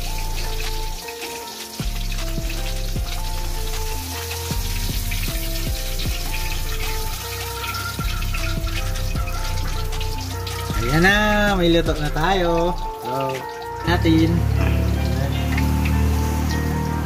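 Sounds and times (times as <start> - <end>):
background music with beat: 0.0 - 17.0
fish sizzling in hot oil: 0.0 - 17.0.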